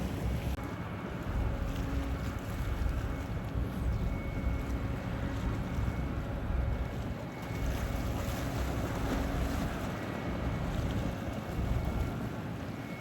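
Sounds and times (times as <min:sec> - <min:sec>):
wind buffeting microphone: 0:00.0 - 0:12.8
boat engines rumbling: 0:00.0 - 0:13.0
water: 0:00.0 - 0:13.0.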